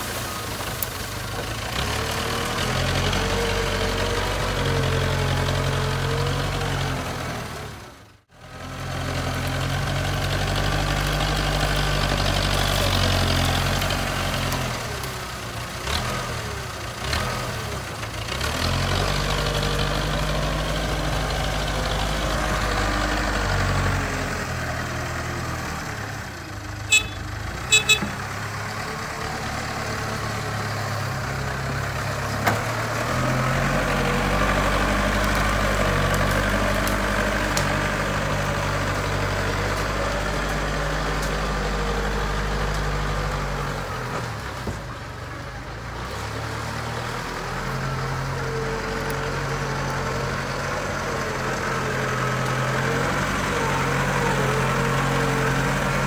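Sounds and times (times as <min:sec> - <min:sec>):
diesel engine of backhoe loader: 0:00.0 - 0:56.0.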